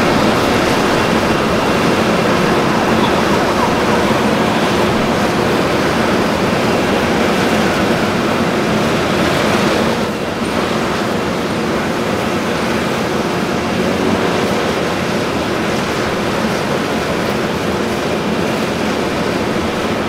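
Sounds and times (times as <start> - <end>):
exhaust fan rushing air: 0.0 - 20.0.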